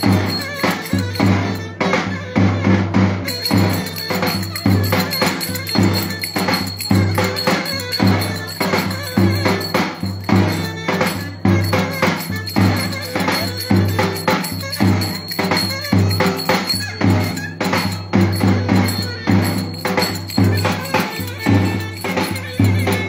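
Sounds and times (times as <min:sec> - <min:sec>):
reed wind instrument melody: 0:00.0 - 0:23.0
strong drum beat: 0:00.0 - 0:23.0.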